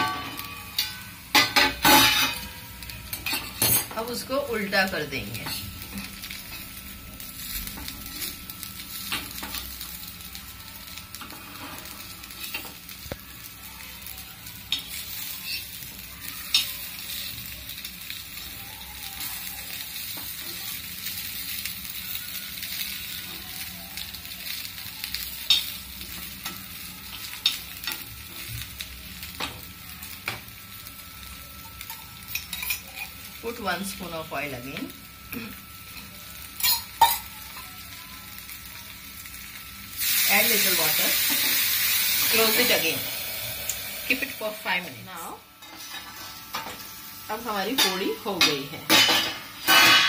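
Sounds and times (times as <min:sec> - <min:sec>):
potato slices sizzling in oil: 0:00.0 - 0:50.0.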